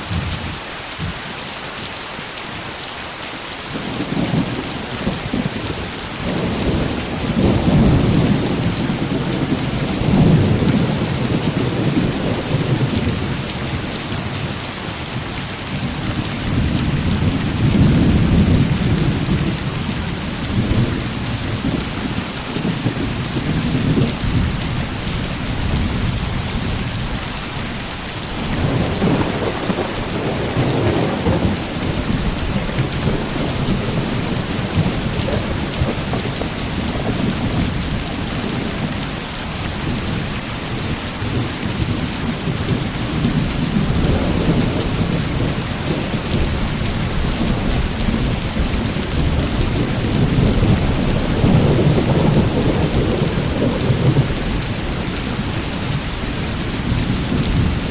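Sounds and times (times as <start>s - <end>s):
heavy rain: 0.0s - 57.9s
thunder rumbling: 3.7s - 14.6s, 15.7s - 27.7s, 28.4s - 39.1s, 39.7s - 57.9s.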